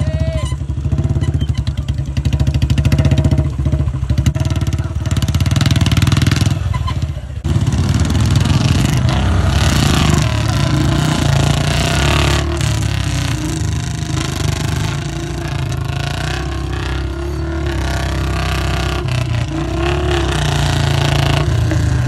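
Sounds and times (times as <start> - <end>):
motorcycle pulsing exhaust: 0.0 - 22.0.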